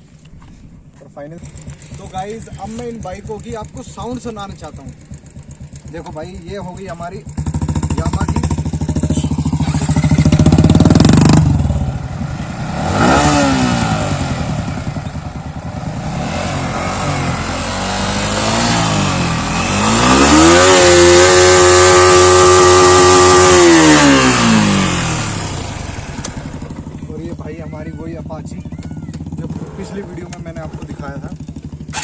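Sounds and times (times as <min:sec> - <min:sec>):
motorcycle engine revving: 0:01.3 - 0:32.0.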